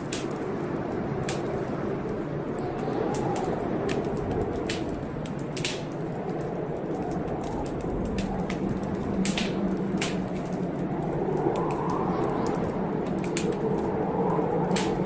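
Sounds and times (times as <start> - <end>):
low rushing storm ambience: 0.0 - 15.0
wood fire crackling: 0.0 - 15.0.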